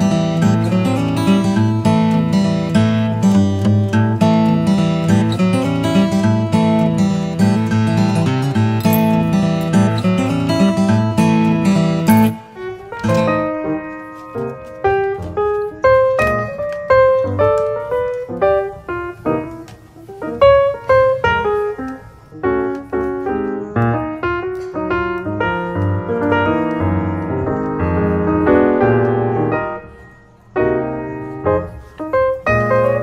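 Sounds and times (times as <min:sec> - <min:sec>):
solo piano melody: 0:00.0 - 0:33.0.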